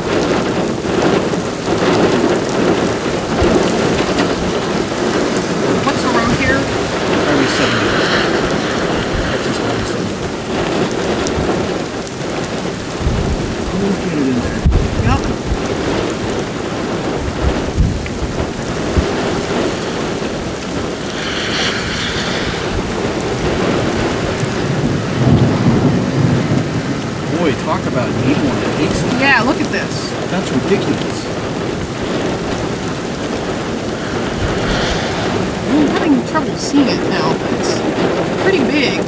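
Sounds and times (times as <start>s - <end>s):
heavy rain: 0.0s - 39.0s
thunder rumbles: 0.0s - 39.0s
wind: 0.0s - 39.0s.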